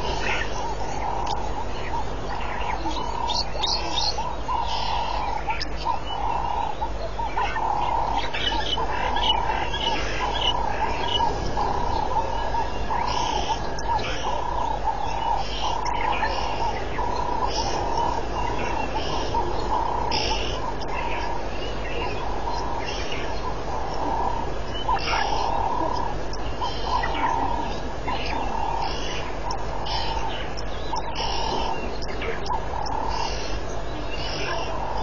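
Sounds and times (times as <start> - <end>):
bird-like chirps: 0.0 - 35.0
pulsing wildlife chorus: 0.0 - 35.0.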